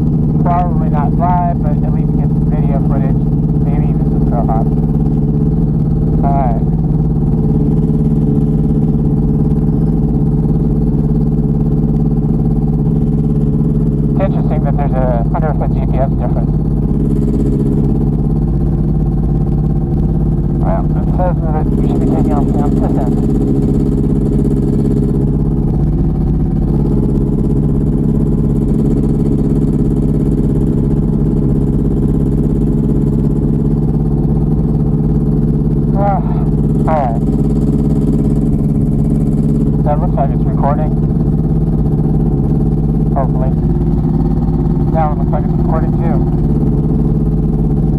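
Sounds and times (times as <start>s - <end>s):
light aircraft engine droning: 0.0s - 47.9s.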